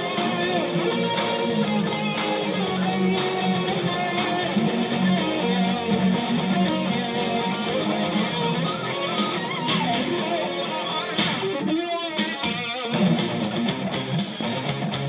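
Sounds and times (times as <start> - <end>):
guitar music with strummed chords: 0.0 - 15.0.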